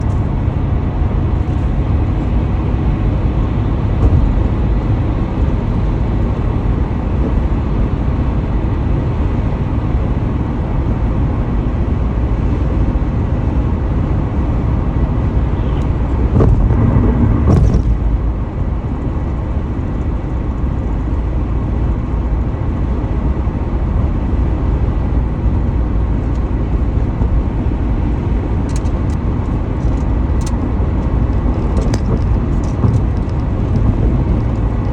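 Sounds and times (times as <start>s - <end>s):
low rumble: 0.0s - 8.3s, 13.4s - 24.2s, 25.0s - 34.9s
car road and tyre noise: 0.0s - 34.9s.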